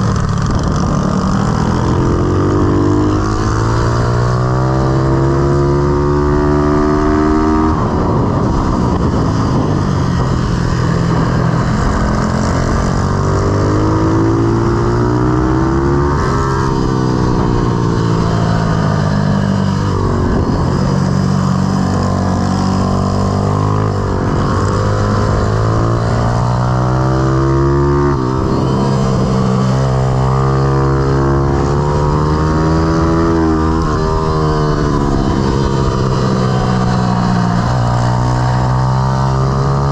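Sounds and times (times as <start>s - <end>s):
motorbike engine revving: 0.0s - 39.9s
wind and road noise: 0.0s - 39.9s.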